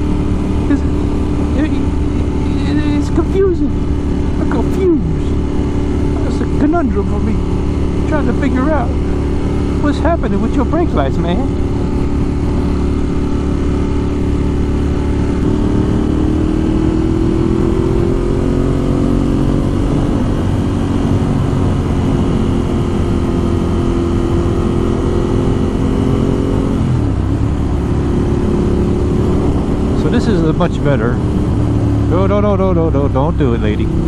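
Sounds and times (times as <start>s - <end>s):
motorcycle engine running: 0.0s - 34.0s
wind and road rumble: 0.0s - 34.0s.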